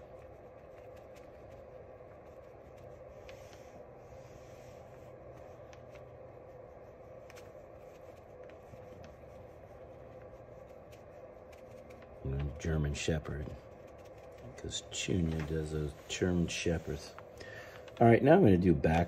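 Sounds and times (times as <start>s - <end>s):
paintbrush scratching and dabbing: 0.0s - 17.3s
steady low hum: 0.0s - 19.0s.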